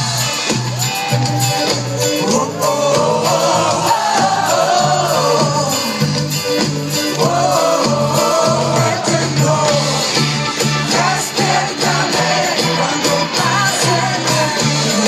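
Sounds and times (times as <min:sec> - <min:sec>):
live band music: 0:00.0 - 0:15.0
person singing: 0:00.8 - 0:06.1, 0:07.0 - 0:15.0.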